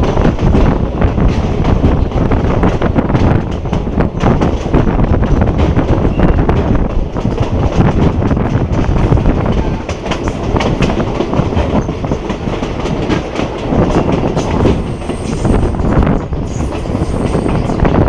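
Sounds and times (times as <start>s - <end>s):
steady rushing noise: 0.0s - 18.0s
train wheels clattering on rails: 0.0s - 18.0s.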